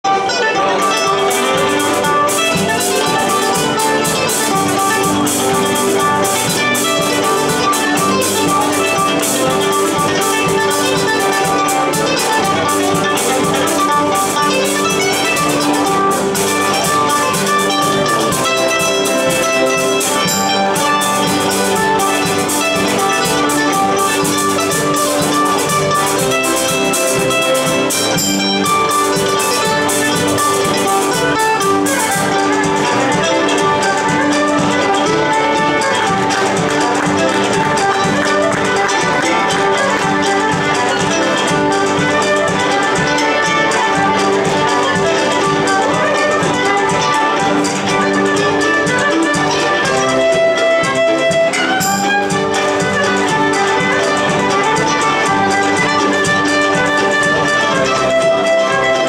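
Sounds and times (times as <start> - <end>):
acoustic and electric guitars: 0.0 - 59.0
mandolin: 0.0 - 59.0
drum kit beat: 0.1 - 59.0.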